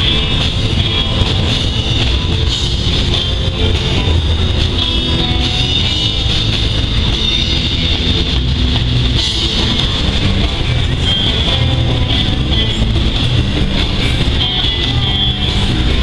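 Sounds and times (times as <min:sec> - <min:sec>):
freight train rolling past: 0:00.0 - 0:16.0
live rock band playing: 0:00.0 - 0:16.0.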